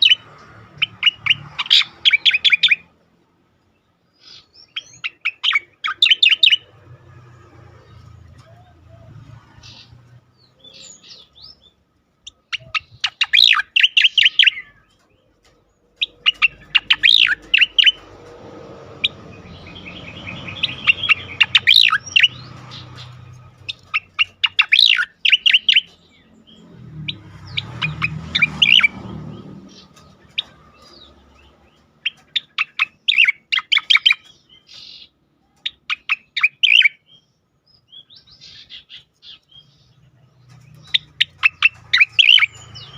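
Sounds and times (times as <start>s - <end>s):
bird sharp chattering song: 0.0s - 3.0s, 3.6s - 6.8s, 7.7s - 18.2s, 18.9s - 42.9s.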